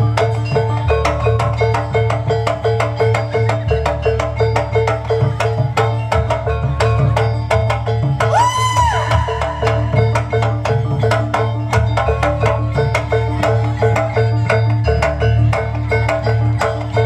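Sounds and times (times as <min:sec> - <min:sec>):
drums: 0:00.0 - 0:17.0
tuned metal percussion: 0:00.0 - 0:17.0.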